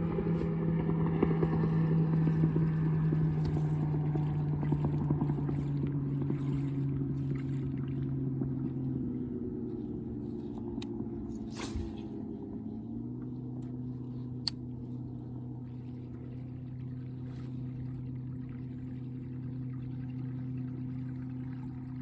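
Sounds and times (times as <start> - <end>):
boat motor humming: 0.0 - 22.0.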